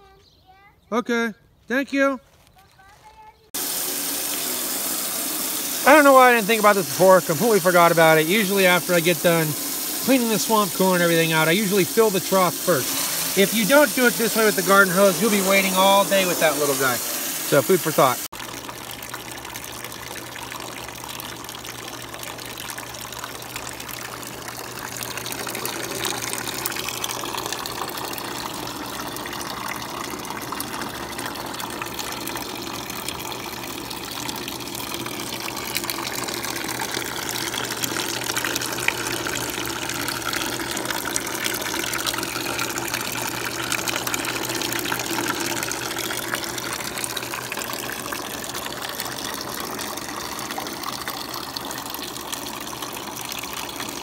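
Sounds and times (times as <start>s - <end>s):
hose water splashing into trough: 3.6s - 54.0s.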